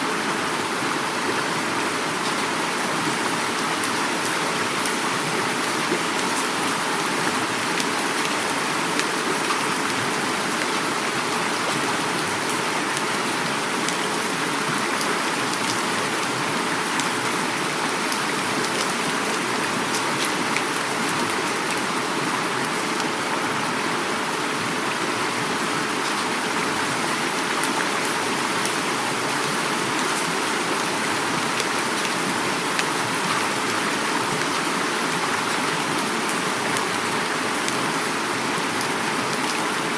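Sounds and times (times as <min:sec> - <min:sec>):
heavy rain falling: 0:00.0 - 0:39.9
river water flowing: 0:00.0 - 0:39.9.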